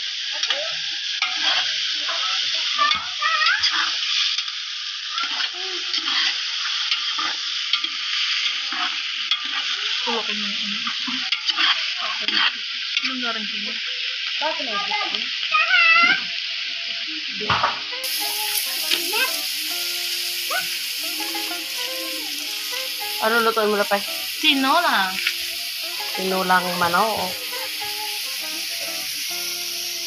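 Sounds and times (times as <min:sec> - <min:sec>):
chicken sizzling in a pot: 0:00.0 - 0:30.0.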